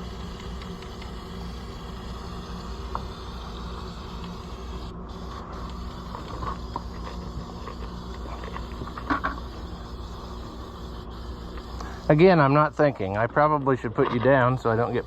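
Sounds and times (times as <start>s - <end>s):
paint spraying hiss: 0.0s - 13.2s, 14.6s - 15.0s
steady low hum: 0.0s - 15.0s.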